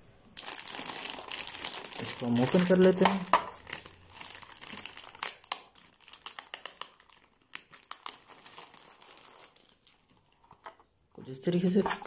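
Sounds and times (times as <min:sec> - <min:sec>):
plastic bag crinkling: 0:00.4 - 0:10.8.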